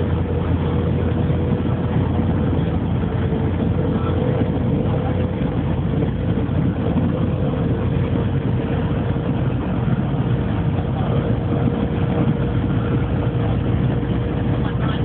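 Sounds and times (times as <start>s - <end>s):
constant hum-like tone: 0.0s - 15.0s
vehicle road and engine rumble: 0.0s - 15.0s.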